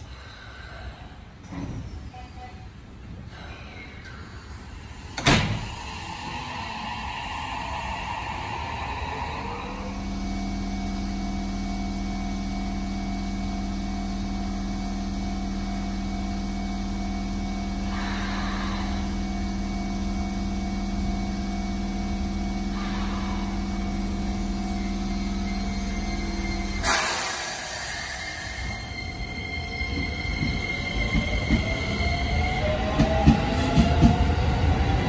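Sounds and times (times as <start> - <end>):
electric train humming: 4.0 - 35.0.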